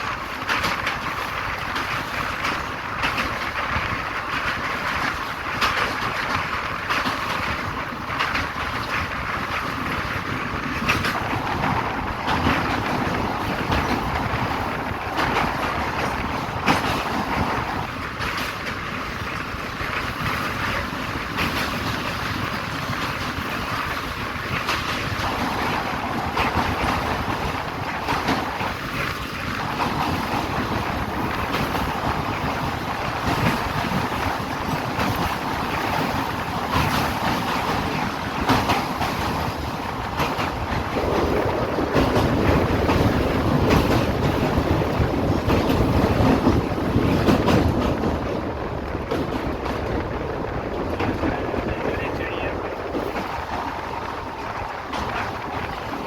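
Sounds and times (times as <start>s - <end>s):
train rumble: 0.0s - 56.0s
train wheels clicking and clanking: 0.0s - 56.0s.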